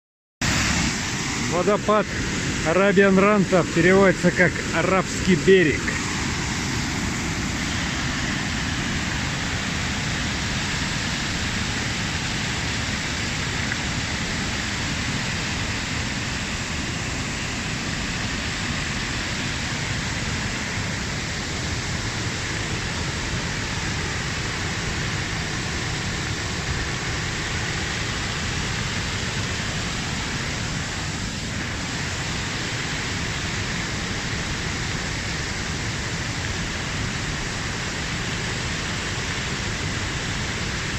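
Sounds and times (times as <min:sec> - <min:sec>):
water rushing down waterfall: 0:00.4 - 0:40.9.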